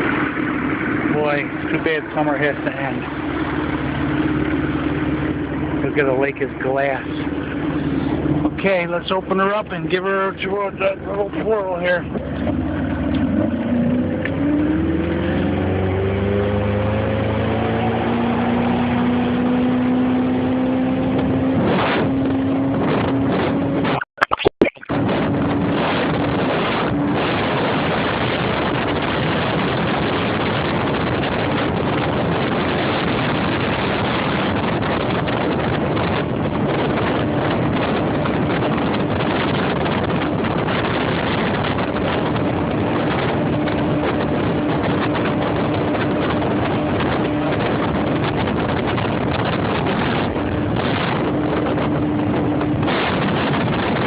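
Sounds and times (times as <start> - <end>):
faint motorboat engine: 0.0 - 23.8, 25.0 - 54.0
wind and water rushing: 0.0 - 24.0, 24.8 - 54.0.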